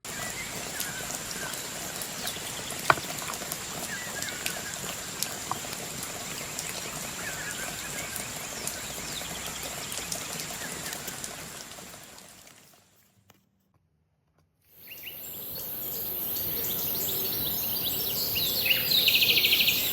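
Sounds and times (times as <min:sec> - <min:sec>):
rain-like hiss: 0:00.0 - 0:13.1, 0:14.7 - 0:19.9.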